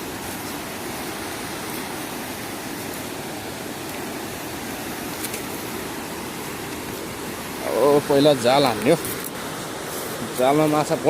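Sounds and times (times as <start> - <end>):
fast river rushing: 0.0 - 11.0.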